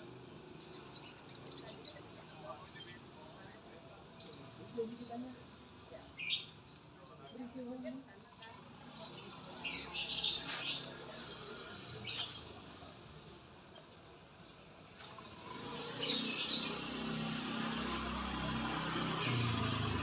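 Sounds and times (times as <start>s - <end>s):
songbird chirping and trilling: 0.0s - 20.0s.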